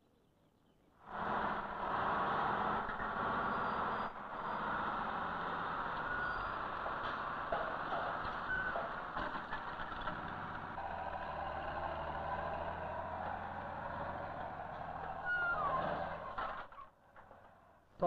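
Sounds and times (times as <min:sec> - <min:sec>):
heavy machinery engine rumbling: 0:01.1 - 0:17.9.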